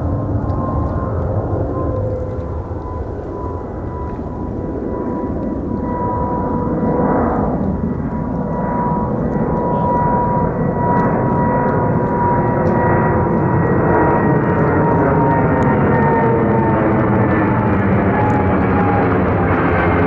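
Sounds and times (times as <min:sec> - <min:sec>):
jet engines whining and rumbling: 0:00.0 - 0:20.0.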